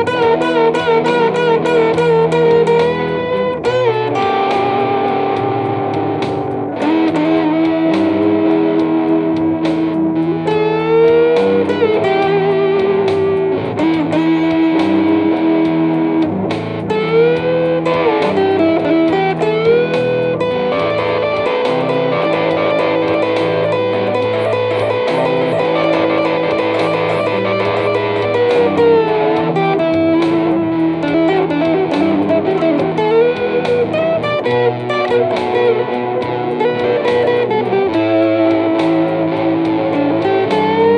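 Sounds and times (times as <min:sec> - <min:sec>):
electric guitar blues: 0:00.0 - 0:40.9.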